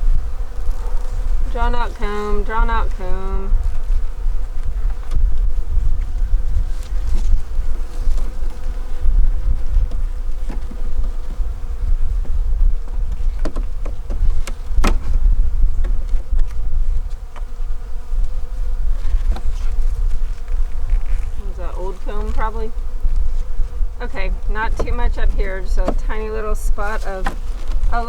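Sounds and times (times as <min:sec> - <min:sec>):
honeybees buzzing: 0:00.0 - 0:28.0.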